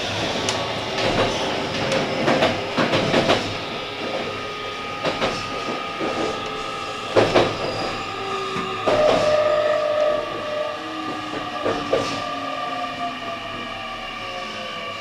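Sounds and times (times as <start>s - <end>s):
train wheels clacking over rails: 0.0s - 12.5s.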